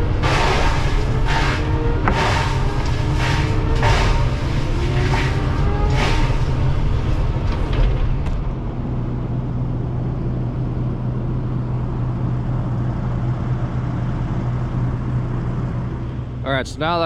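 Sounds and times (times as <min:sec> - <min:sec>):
excavator diesel engine humming: 0:00.0 - 0:17.0.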